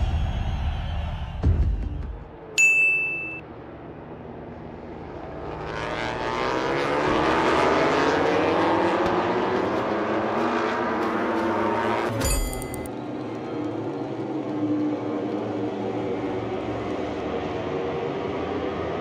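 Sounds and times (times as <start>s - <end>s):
racing motorcycle engines howling: 3.5s - 19.0s.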